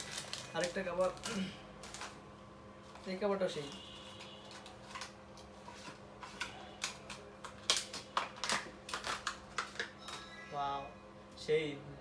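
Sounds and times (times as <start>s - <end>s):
plastic packaging crackling: 0.0s - 10.2s.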